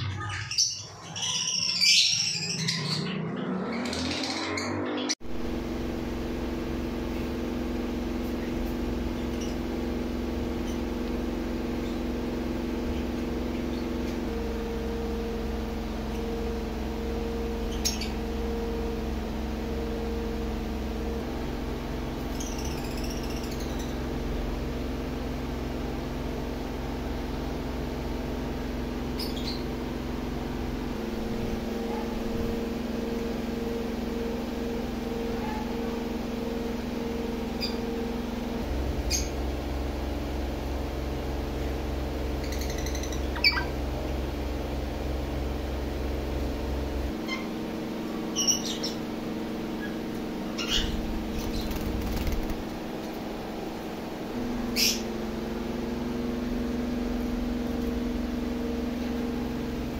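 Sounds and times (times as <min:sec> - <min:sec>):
steady low hum: 0:00.8 - 0:59.9.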